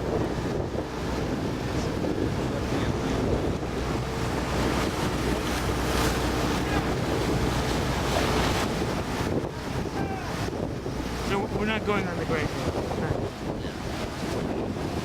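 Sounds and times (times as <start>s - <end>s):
motorboat engine humming: 0.0s - 15.0s
water rushing past hull: 0.0s - 15.0s
wind buffeting microphone: 0.0s - 15.0s.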